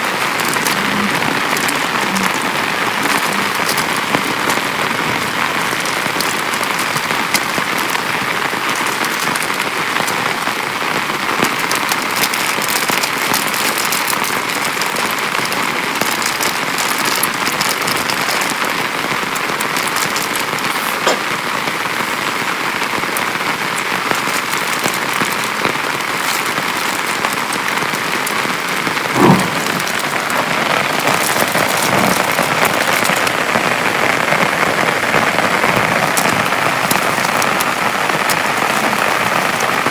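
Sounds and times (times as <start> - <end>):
rain pattering on tent: 0.0 - 39.9.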